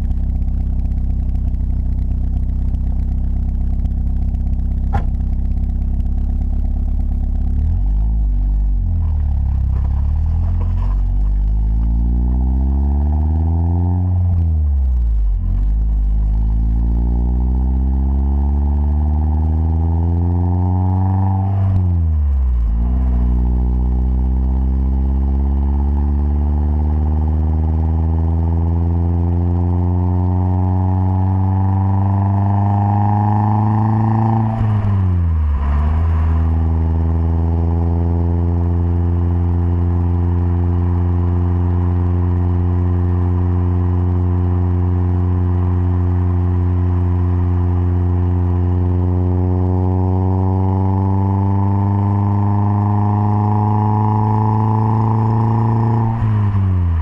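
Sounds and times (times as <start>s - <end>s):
turbocharged car engine accelerating: 0.0s - 57.0s.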